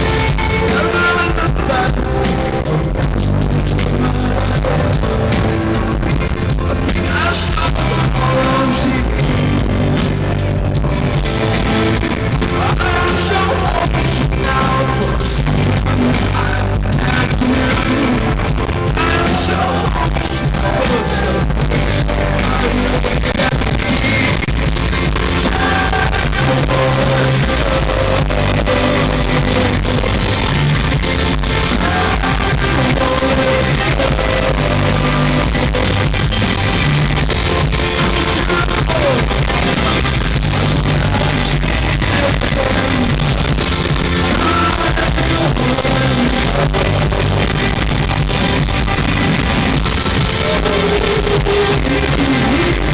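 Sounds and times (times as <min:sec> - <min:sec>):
man singing: 0:00.0 - 0:10.5, 0:11.9 - 0:37.2, 0:37.8 - 0:48.4, 0:50.2 - 0:52.9
drums: 0:00.0 - 0:52.9
electric guitar: 0:00.0 - 0:52.9.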